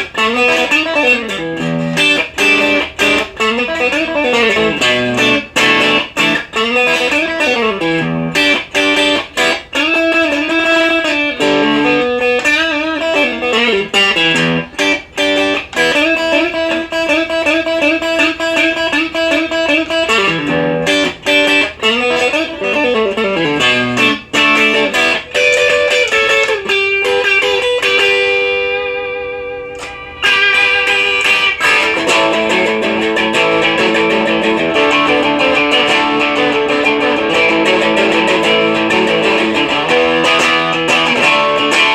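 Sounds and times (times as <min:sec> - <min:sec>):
overdriven electric guitar runs: 0:00.0 - 0:41.9.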